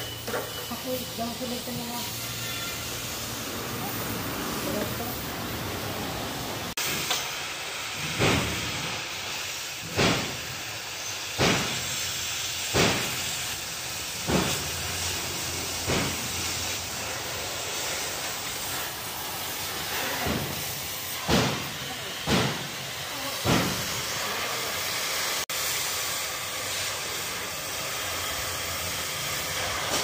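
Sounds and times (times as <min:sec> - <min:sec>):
cutting torch hissing: 0:00.0 - 0:30.0
torch rushing: 0:00.0 - 0:30.0.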